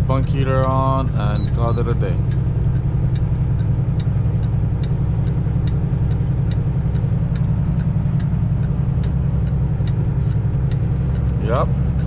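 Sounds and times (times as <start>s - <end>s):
diesel engine rumbling: 0.0s - 12.0s
light regular ticking: 0.0s - 12.0s.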